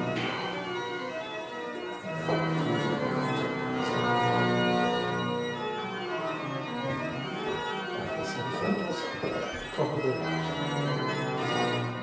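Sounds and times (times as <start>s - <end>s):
organ playing slow chords: 0.0s - 12.0s.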